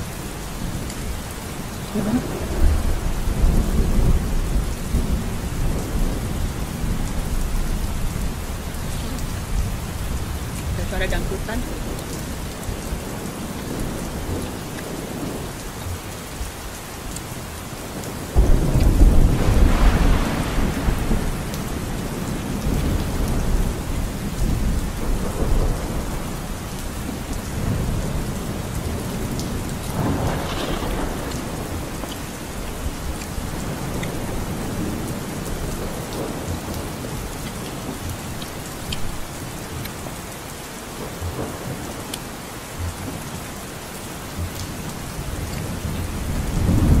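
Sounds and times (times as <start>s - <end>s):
thunder rumbling: 0.0s - 16.5s, 17.8s - 40.2s, 44.4s - 47.0s
steady rain: 0.0s - 47.0s.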